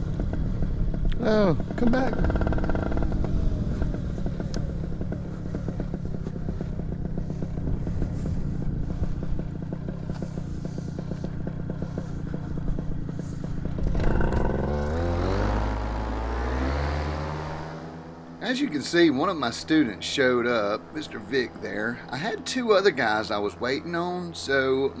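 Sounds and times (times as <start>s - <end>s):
paramotor engine idling and revving: 0.0s - 25.0s.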